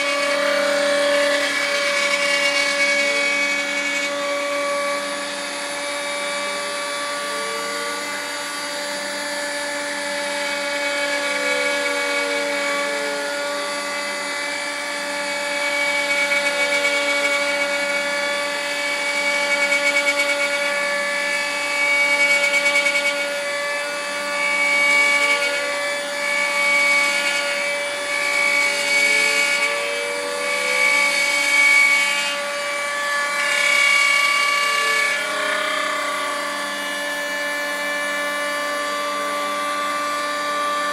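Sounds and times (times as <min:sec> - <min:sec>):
router whining cutting wood: 0:00.0 - 0:40.9.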